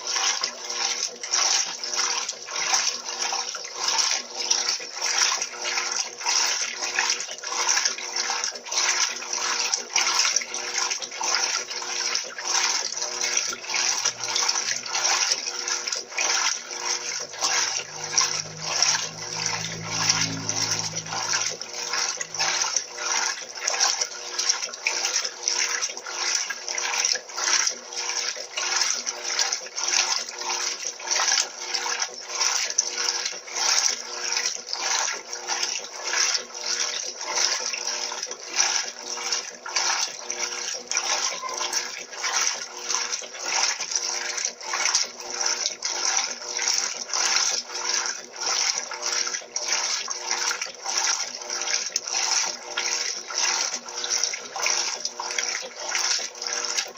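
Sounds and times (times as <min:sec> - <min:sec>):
washing machine motor hum: 0:00.0 - 0:56.9
water sloshing in washing machine: 0:00.0 - 0:56.9.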